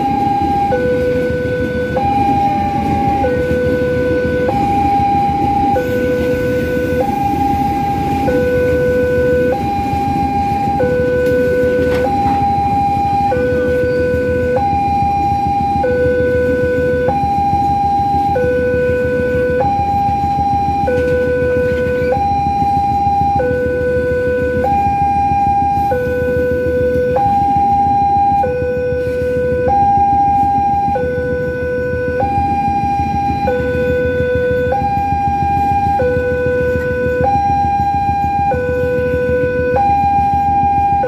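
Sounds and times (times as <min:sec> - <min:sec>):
freight train wagons rumbling: 0:00.0 - 0:41.0
level crossing two-tone alarm: 0:00.0 - 0:41.0.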